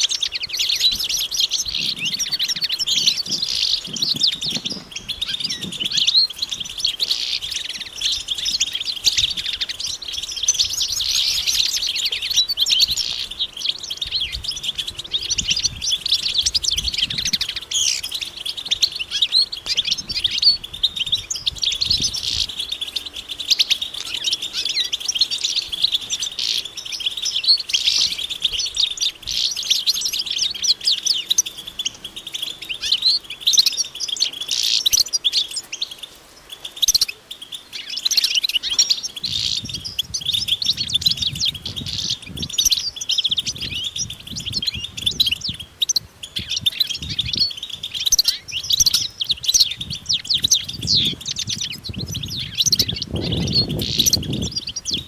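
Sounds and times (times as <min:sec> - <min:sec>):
finches twittering and chirping: 0:00.0 - 0:55.0.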